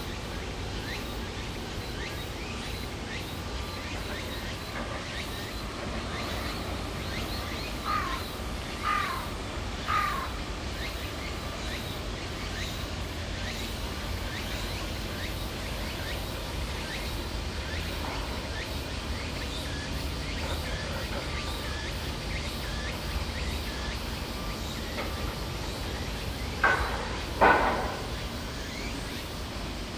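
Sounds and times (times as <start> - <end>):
harsh falling bird calls: 0.0 - 29.8.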